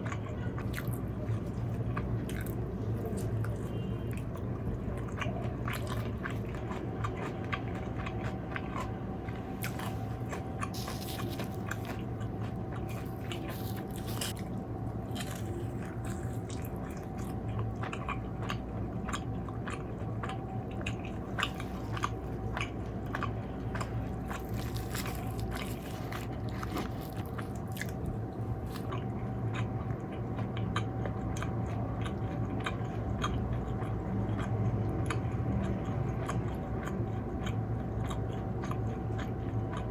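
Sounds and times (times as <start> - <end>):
crunchy chewing: 0.0 - 39.9
steady background hum: 0.0 - 39.9.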